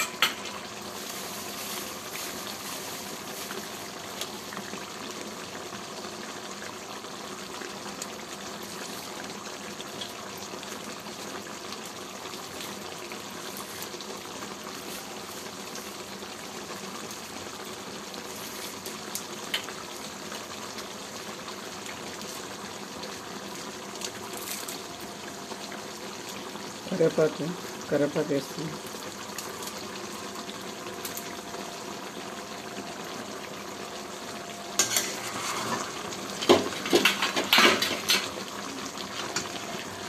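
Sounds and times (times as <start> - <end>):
curry bubbling and hissing: 0.0 - 40.0.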